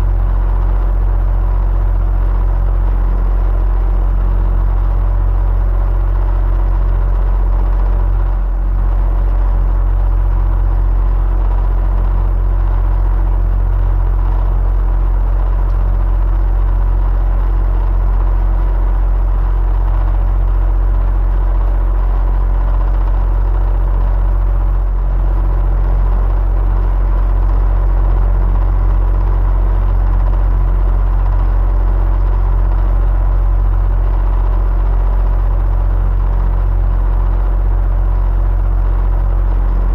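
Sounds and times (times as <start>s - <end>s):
electric fan motor hum: 0.0s - 39.9s.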